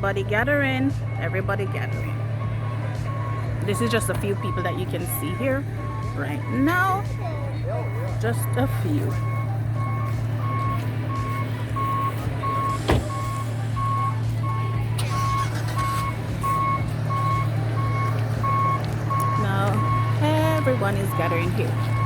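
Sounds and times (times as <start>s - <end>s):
back-up alarm beeping: 0.0s - 22.0s
low engine hum: 0.0s - 22.0s.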